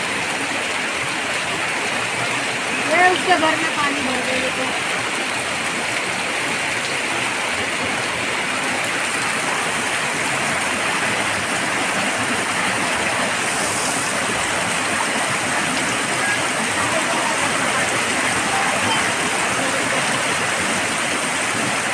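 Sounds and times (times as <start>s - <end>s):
heavy rain on wet street: 0.0s - 21.9s.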